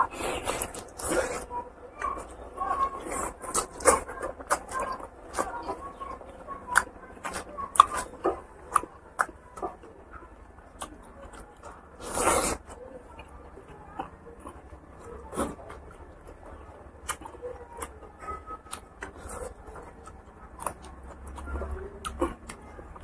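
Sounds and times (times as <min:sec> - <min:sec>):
wet chewing and lip-smacking: 0:00.0 - 0:23.0.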